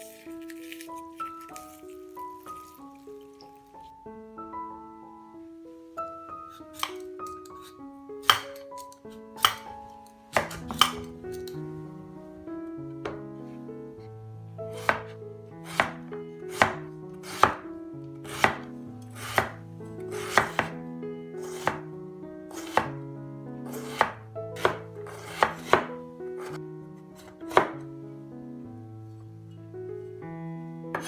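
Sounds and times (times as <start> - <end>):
soft background music: 0.0 - 31.0.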